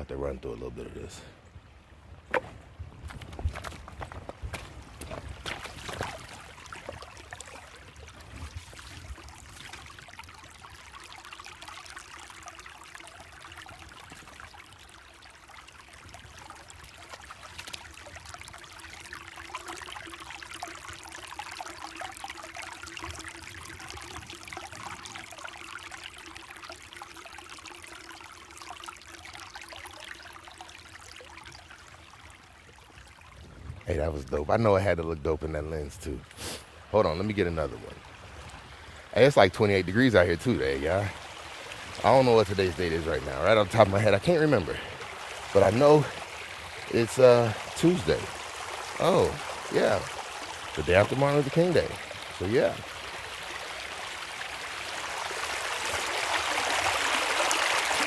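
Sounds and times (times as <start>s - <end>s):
creek water babbling over rocks: 0.2s - 58.0s.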